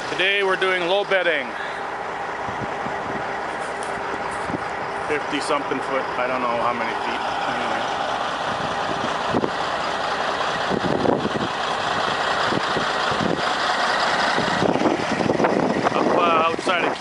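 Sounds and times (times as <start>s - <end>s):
heavy truck engine and road noise: 0.0s - 17.0s.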